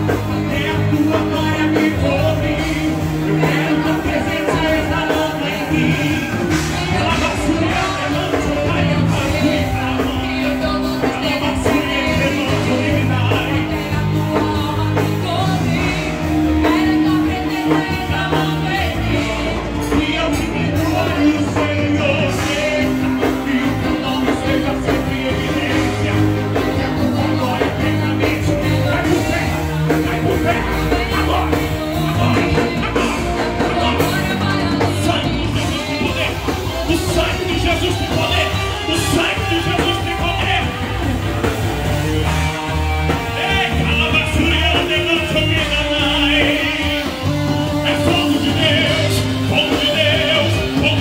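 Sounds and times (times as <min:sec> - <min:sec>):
person singing: 0:00.0 - 0:51.0
rock-style worship band playing: 0:00.0 - 0:51.0.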